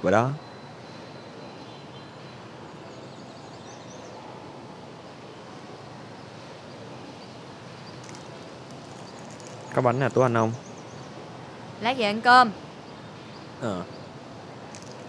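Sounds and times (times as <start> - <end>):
outdoor ambient noise: 0.0 - 15.0.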